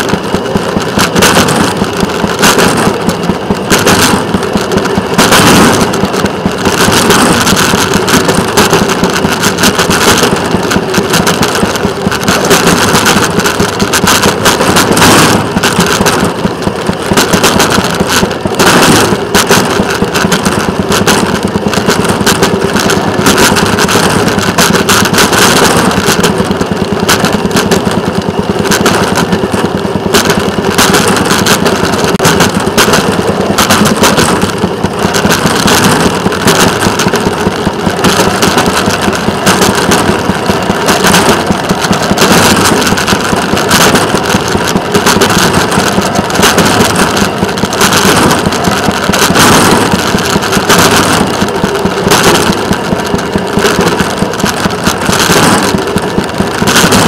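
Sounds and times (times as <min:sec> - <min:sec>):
rail motorcar engine running: 0:00.0 - 0:57.0
wheels clattering on rails: 0:00.0 - 0:57.0.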